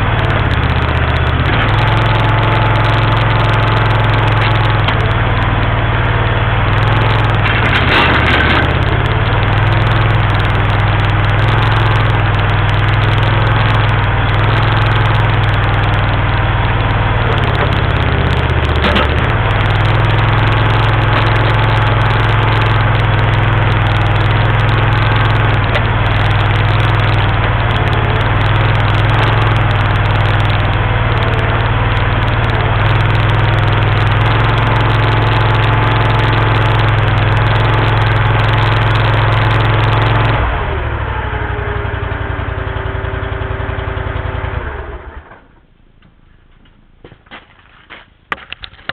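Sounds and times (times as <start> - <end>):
mini backhoe engine running: 0.0 - 48.9.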